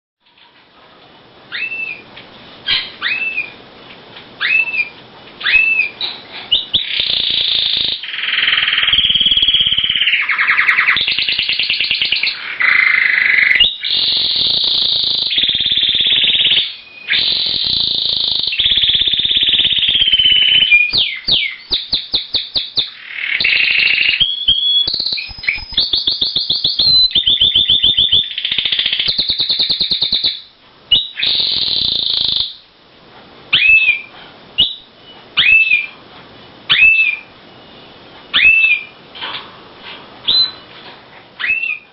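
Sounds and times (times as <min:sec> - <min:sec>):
canary singing: 0:01.5 - 0:03.6, 0:04.4 - 0:32.7, 0:33.5 - 0:36.0, 0:36.7 - 0:39.0, 0:40.2 - 0:40.8, 0:41.4 - 0:41.9.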